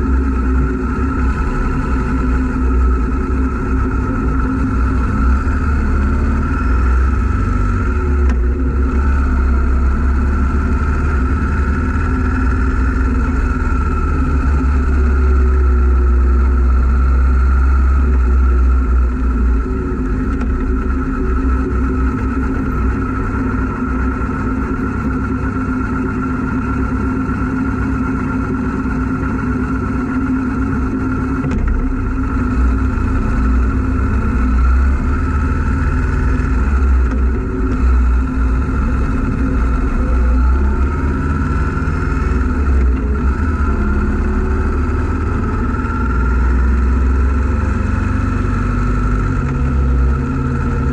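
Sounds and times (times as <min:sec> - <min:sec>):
motorcycle engine rumbling: 0:00.0 - 0:50.9.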